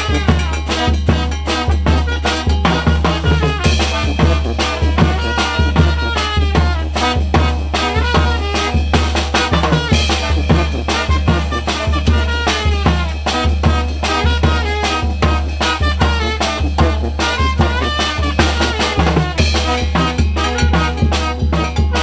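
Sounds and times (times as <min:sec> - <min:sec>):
band playing upbeat song: 0:00.0 - 0:22.0
drums keeping a beat: 0:00.0 - 0:22.0.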